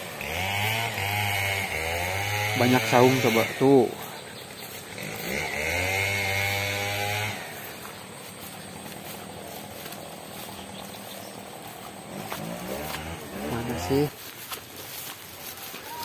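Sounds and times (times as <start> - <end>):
small engine revving: 0.0 - 14.2.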